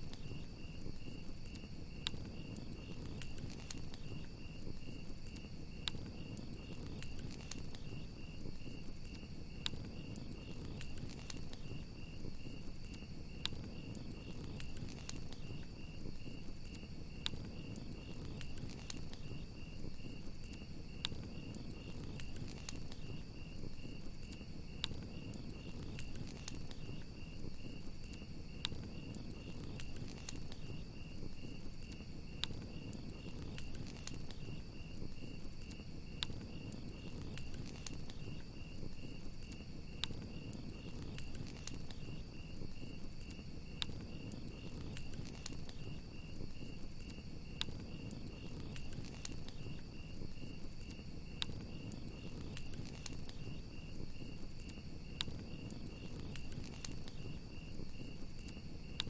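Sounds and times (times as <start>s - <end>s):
burning wood popping: 0.0s - 59.0s
crickets chirping: 0.0s - 59.0s
low rumble of flames: 0.0s - 59.0s
wood fire crackling: 0.0s - 59.0s.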